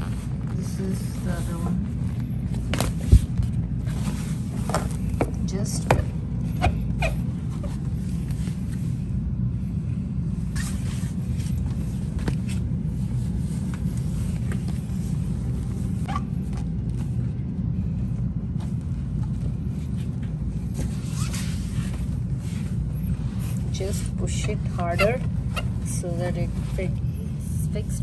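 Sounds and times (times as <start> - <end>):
cushion rustling and scraping: 0.0 - 28.0
steady low rumble: 0.0 - 28.0.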